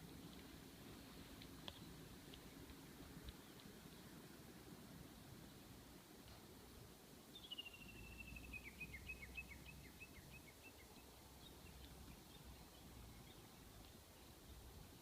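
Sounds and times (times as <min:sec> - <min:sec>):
faint bird song: 0:00.1 - 0:04.8, 0:06.3 - 0:15.0.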